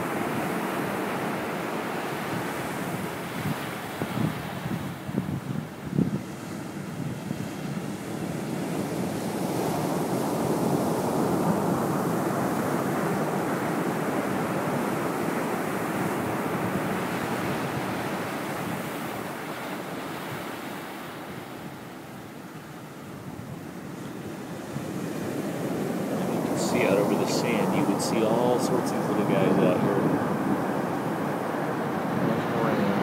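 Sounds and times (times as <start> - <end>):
ocean surf washing up beach: 0.0 - 33.0.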